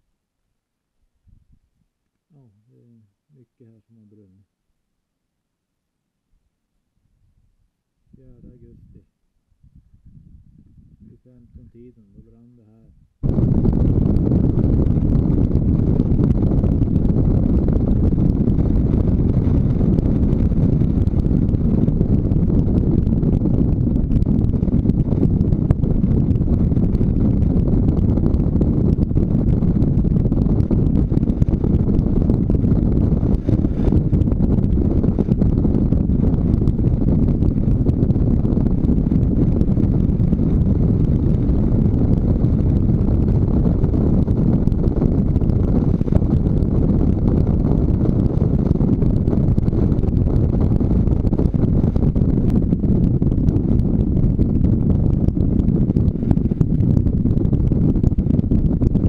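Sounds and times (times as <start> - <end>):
wind buffeting microphone: 1.2 - 1.8, 7.0 - 59.0.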